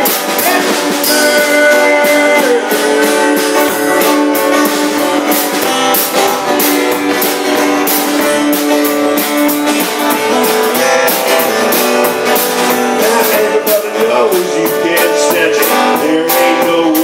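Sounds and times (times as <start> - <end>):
even beat: 0.0 - 17.0
guitars strumming: 0.0 - 17.0.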